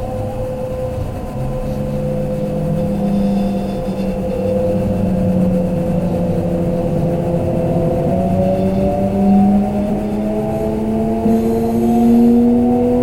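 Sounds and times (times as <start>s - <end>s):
train motors whining: 0.0s - 13.0s
wheels rumbling on track: 0.0s - 13.0s.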